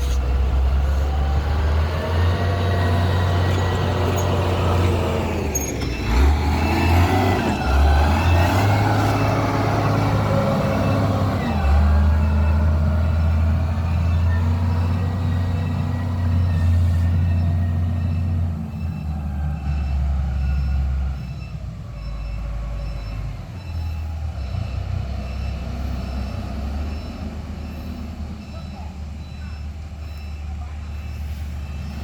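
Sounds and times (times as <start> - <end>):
diesel engine droning: 0.0 - 32.0
reversing alarm beeps: 0.0 - 32.0.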